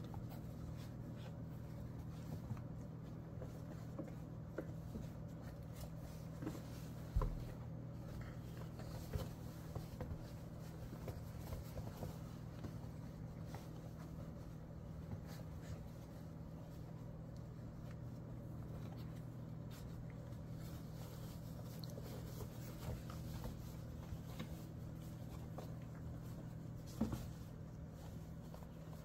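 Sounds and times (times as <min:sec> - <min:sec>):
puppies scratching and rustling: 0:00.0 - 0:29.0.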